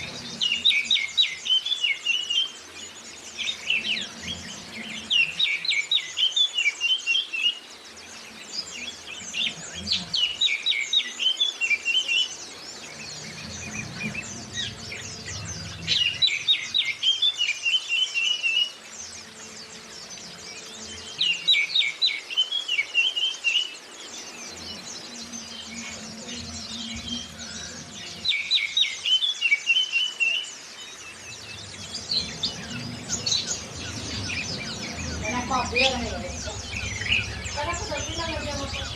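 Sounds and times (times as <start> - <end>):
bird song phrases: 0.0 - 38.9
high bird twittering: 0.0 - 38.9.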